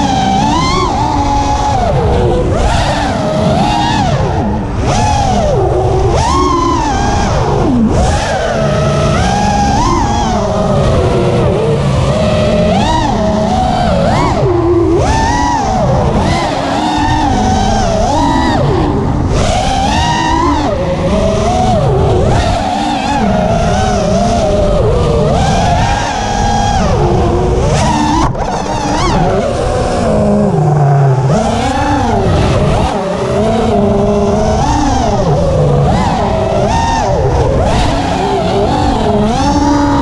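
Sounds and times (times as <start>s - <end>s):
quadcopter motors whining: 0.0s - 40.0s.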